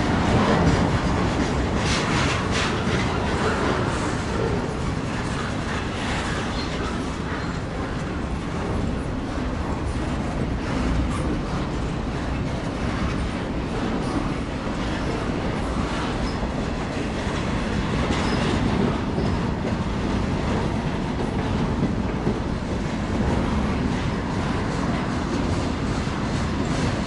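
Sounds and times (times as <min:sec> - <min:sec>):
steel wheels rumbling on rails: 0:00.0 - 0:27.0.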